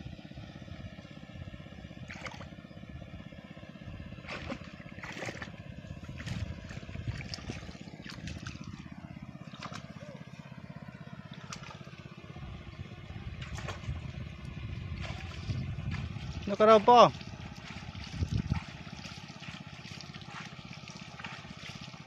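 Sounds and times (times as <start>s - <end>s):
small engine running: 0.0s - 22.0s
feet wading through muddy water: 1.9s - 2.6s, 3.9s - 22.0s.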